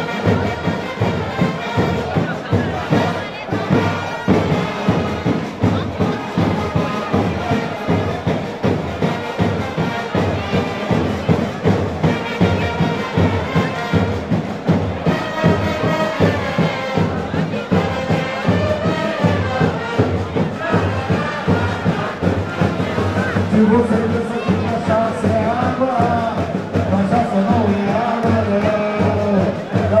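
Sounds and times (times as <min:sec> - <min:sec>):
brass band playing a march: 0:00.0 - 0:30.0.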